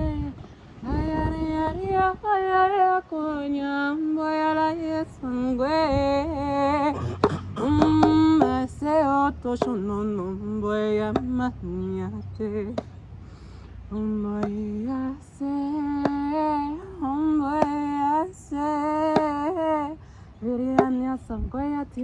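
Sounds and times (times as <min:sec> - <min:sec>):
woman singing wordless tones: 0:00.0 - 0:22.0.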